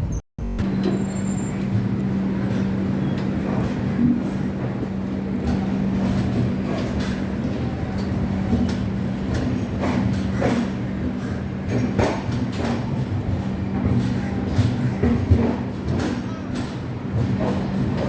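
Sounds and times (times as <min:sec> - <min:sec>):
train coach steady hum: 0:00.0 - 0:18.0.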